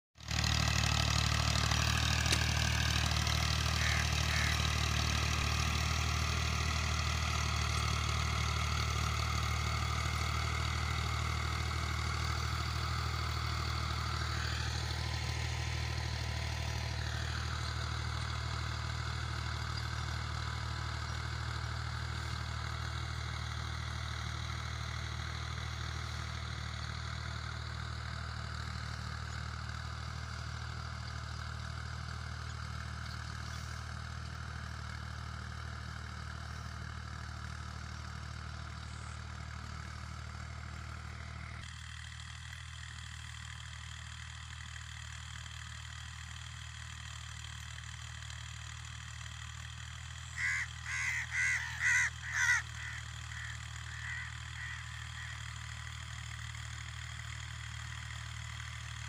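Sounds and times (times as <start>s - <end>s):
diesel tractor engine under load: 0.2s - 59.0s.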